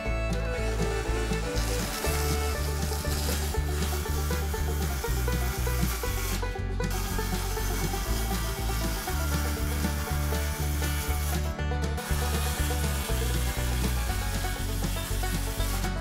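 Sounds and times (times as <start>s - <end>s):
background music with bass: 0.0s - 16.0s
circular saw cutting wood: 0.0s - 16.0s.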